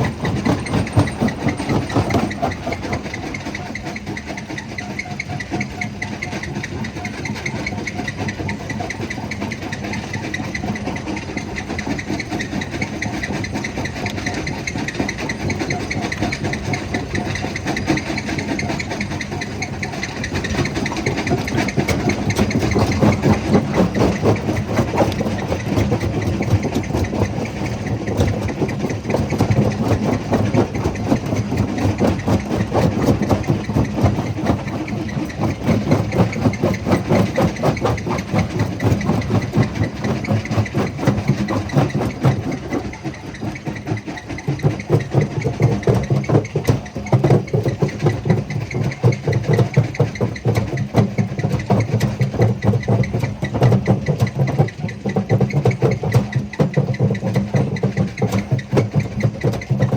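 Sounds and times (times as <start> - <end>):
crusher machine rumbling and clattering: 0.0 - 59.9.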